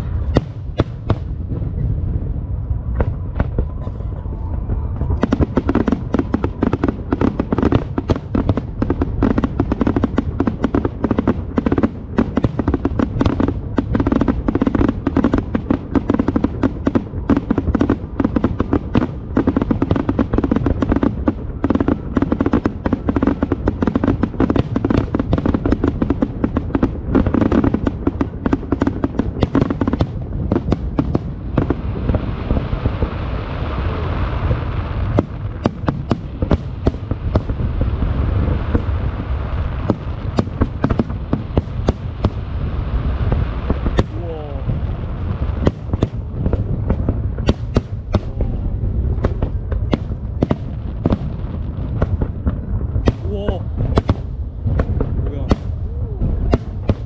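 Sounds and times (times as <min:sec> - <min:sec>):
fireworks crackling: 0:00.0 - 0:57.0
low rumble of booms: 0:00.0 - 0:57.0.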